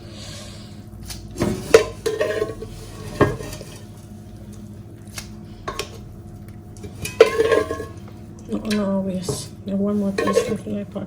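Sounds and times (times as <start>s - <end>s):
utensil stirring in a pot: 1.3s - 11.0s.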